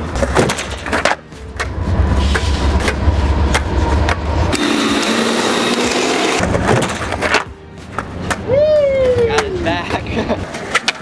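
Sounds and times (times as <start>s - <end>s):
skateboard wheels rolling on concrete: 0.0s - 4.5s, 6.4s - 11.0s.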